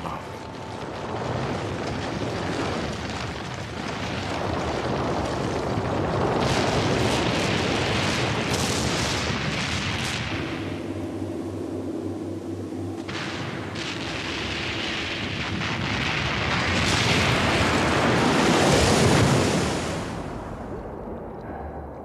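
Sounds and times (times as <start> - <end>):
sharp crackling bursts: 0.0 - 21.6
cartoon explosions rumbling: 0.0 - 22.0.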